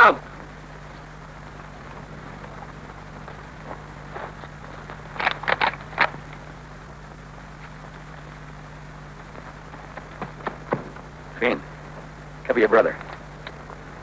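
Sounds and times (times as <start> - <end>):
projector hum and crackle: 0.0 - 14.0.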